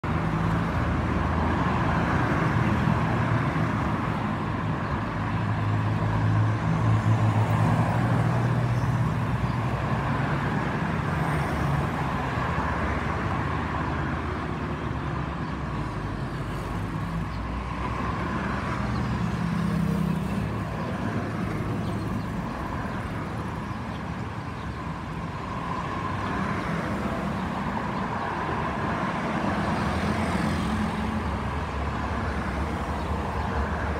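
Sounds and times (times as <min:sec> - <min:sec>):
vehicles passing on highway: 0:00.0 - 0:33.9.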